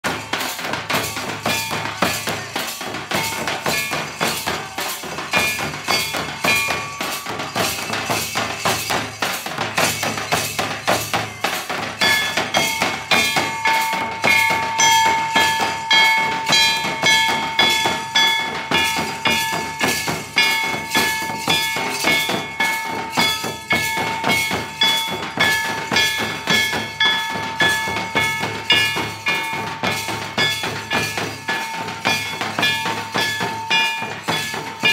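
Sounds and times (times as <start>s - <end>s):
drums beating fast: 0.0s - 34.9s.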